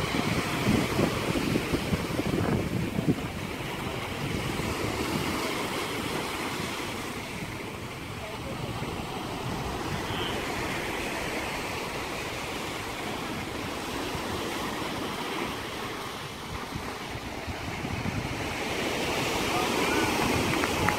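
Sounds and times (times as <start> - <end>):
small waves washing over sand: 0.0 - 20.9.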